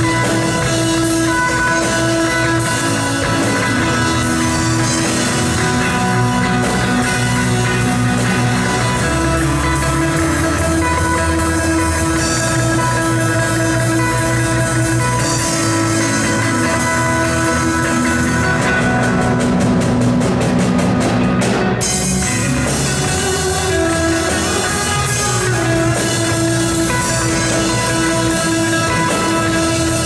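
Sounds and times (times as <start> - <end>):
drum kit: 0.0 - 30.0
electric guitars: 0.0 - 30.0
rock band playing: 0.0 - 30.0.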